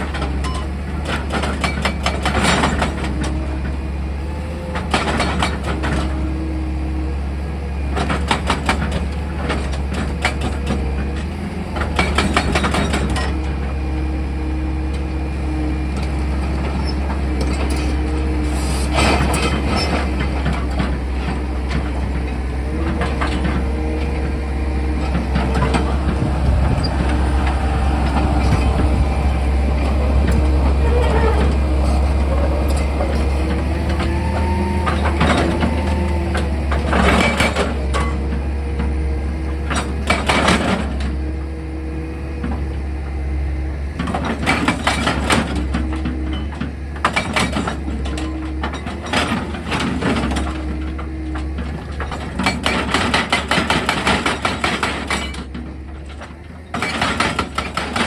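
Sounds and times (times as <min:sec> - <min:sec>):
excavator engine humming: 0:00.0 - 0:58.0.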